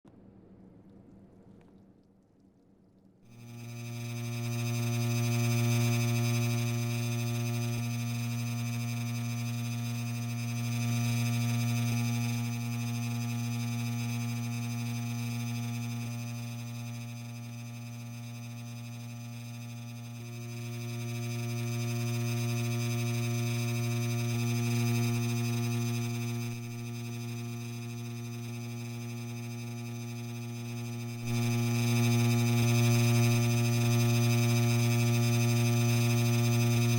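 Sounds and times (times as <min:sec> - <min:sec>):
ceiling fan motor humming: 0:03.3 - 0:36.9
high-pitched whine: 0:03.3 - 0:36.9.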